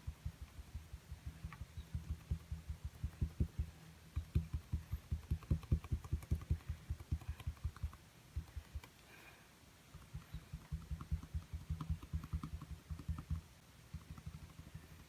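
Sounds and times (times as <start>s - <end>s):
paint dabbing on canvas: 0.0s - 15.0s.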